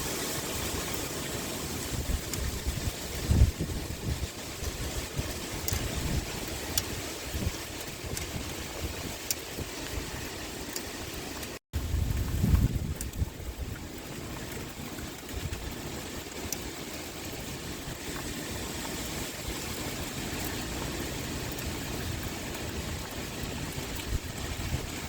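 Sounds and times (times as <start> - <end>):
rain pouring: 0.0 - 25.0
wind: 0.0 - 25.0.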